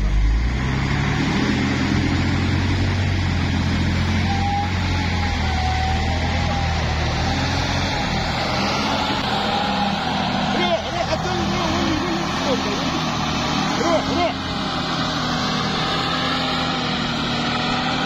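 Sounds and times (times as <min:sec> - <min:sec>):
heavy truck engine under load: 0:00.0 - 0:18.0.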